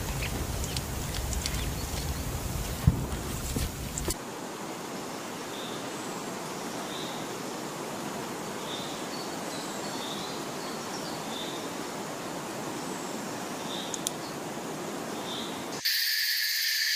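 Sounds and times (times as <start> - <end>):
outdoor ambience hiss: 0.0 - 16.9.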